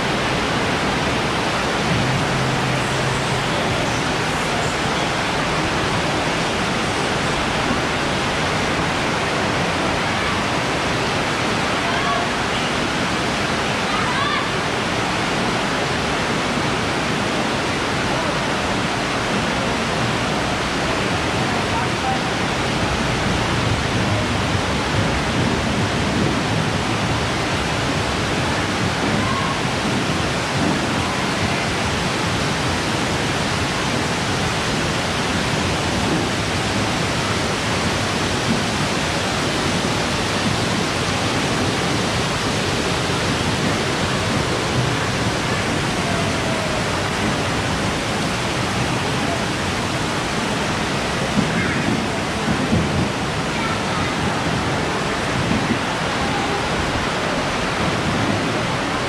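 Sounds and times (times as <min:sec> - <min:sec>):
heavy rain: 0:00.0 - 0:59.0
water pouring off roof: 0:00.0 - 0:59.0.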